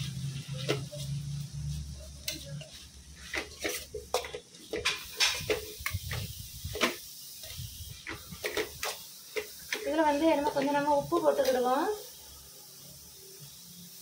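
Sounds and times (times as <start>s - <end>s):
spoon scraping metal pan: 0.0s - 11.7s
food frying in oil: 0.0s - 14.0s.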